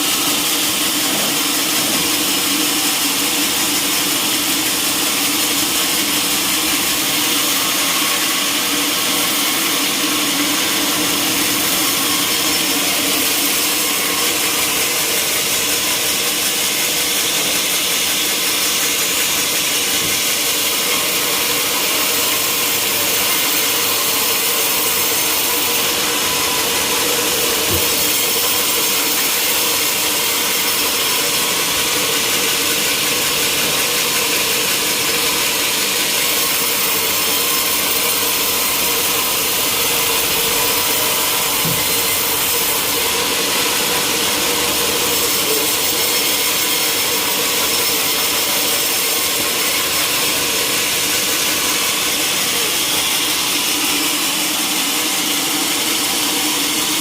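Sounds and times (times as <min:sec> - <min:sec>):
sawmill saw cutting timber: 0:00.0 - 0:57.0.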